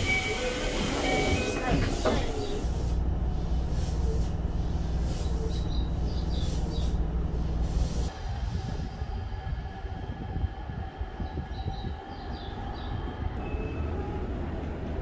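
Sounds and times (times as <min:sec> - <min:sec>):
electric train hum: 0:00.0 - 0:15.0.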